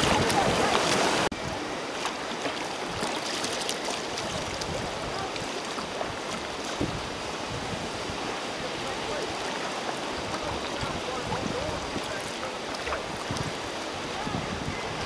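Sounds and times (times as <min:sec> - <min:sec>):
water lapping against a kayak hull: 0:00.0 - 0:15.0
wind on microphone: 0:00.0 - 0:15.0.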